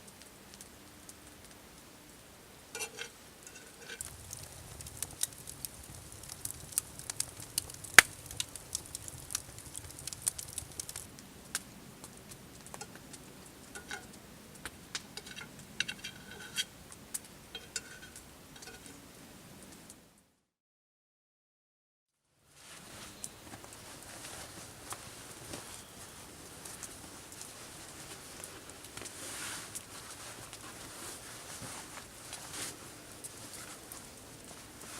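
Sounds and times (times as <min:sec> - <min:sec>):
campfire crackling: 0:00.0 - 0:20.2, 0:22.4 - 0:34.9.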